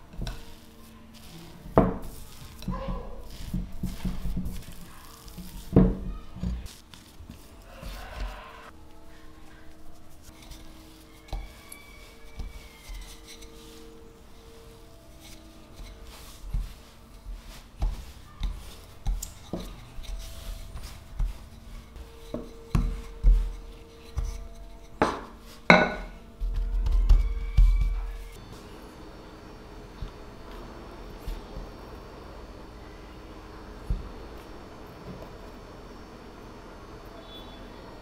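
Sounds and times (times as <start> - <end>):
quiet background music: 0.0 - 38.0.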